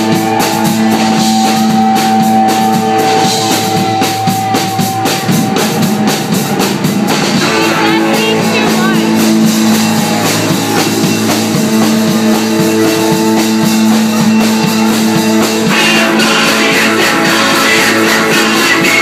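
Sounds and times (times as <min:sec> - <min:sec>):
drum beat: 0:00.0 - 0:19.0
keyboard chords: 0:00.0 - 0:19.0.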